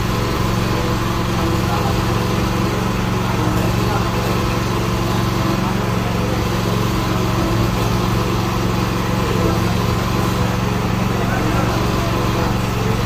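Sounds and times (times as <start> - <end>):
water pump petrol engine running: 0.0 - 13.0.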